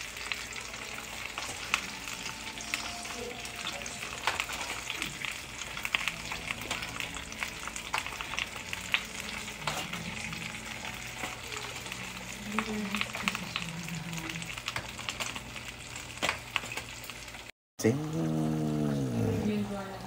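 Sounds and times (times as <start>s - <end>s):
butter and meat juices sizzling: 0.0s - 20.0s.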